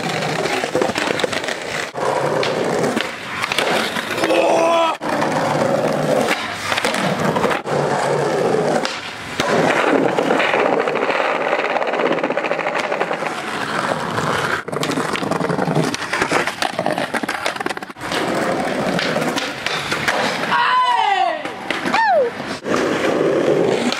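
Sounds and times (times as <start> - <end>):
skateboard clacks and knocks: 0.0 - 23.9
skateboard wheels rolling on stone: 0.0 - 23.9.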